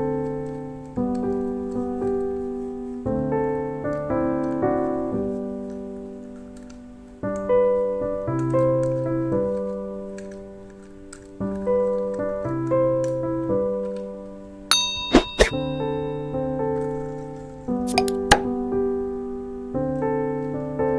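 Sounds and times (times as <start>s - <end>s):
slow gentle piano chords: 0.0s - 15.0s, 15.6s - 20.9s.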